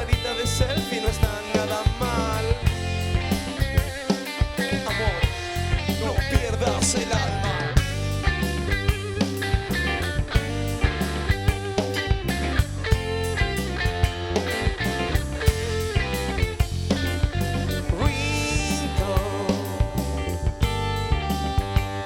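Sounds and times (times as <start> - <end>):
rock band playing instrumental: 0.0 - 22.0.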